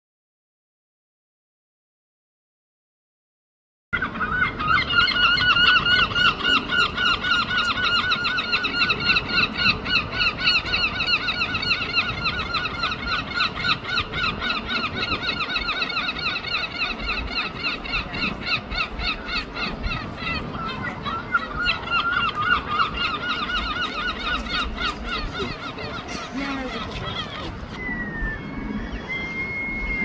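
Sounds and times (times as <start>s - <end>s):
gulls calling: 4.0s - 30.0s.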